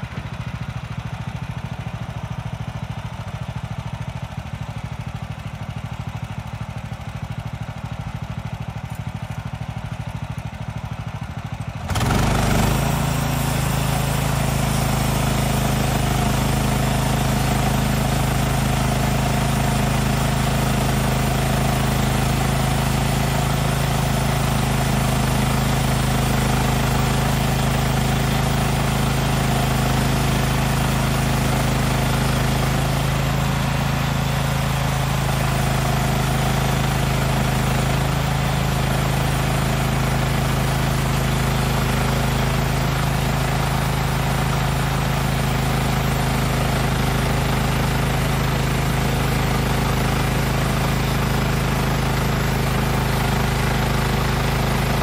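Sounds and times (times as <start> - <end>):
small gas engine running: 0.0 - 55.0.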